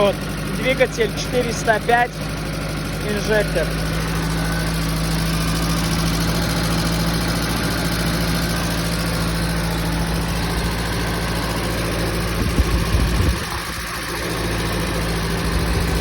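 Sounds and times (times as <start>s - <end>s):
petrol engine idling: 0.0s - 16.0s.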